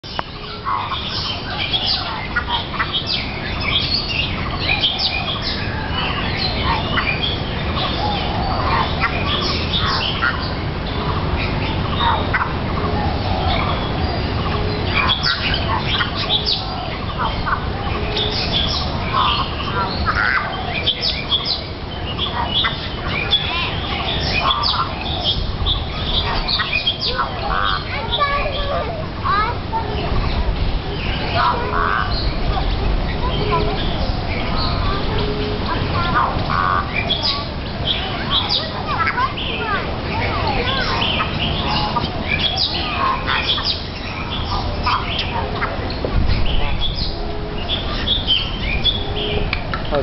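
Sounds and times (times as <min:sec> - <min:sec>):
aviary birds whistling and chirping: 0:00.0 - 0:50.0
mynah warbled calls: 0:00.0 - 0:50.0.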